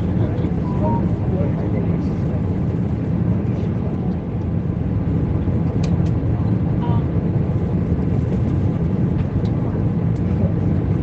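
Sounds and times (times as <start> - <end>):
aircraft cabin engine hum: 0.0 - 11.0.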